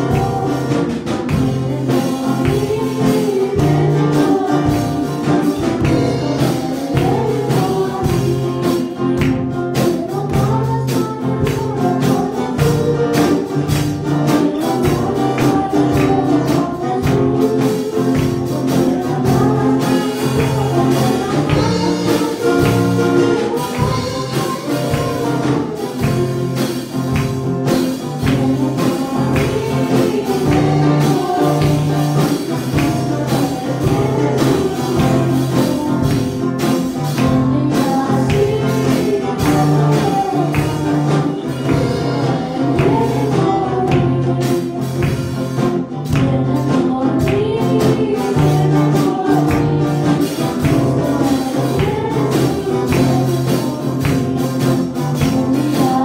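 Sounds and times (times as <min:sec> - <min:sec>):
gospel backing track with tambourine: 0:00.0 - 0:56.0
solo voice singing: 0:00.0 - 0:56.0.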